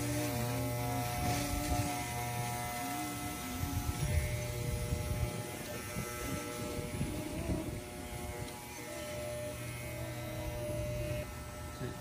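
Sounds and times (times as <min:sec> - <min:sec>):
electric clippers buzzing: 0:00.0 - 0:12.0.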